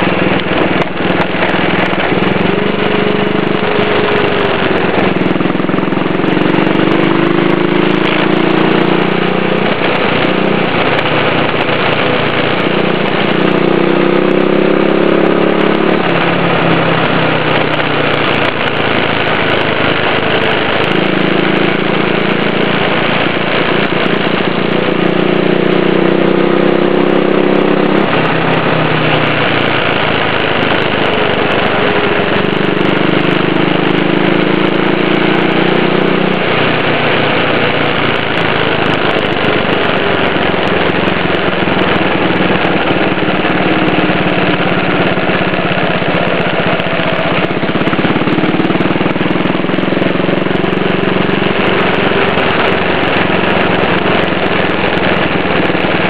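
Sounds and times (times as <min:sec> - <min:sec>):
wheels rumbling on road: 0:00.0 - 0:56.0.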